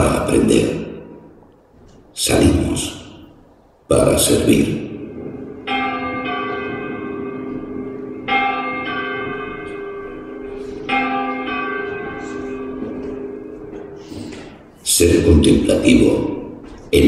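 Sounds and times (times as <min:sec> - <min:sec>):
church bell ringing: 0:00.0 - 0:01.5, 0:04.0 - 0:17.0.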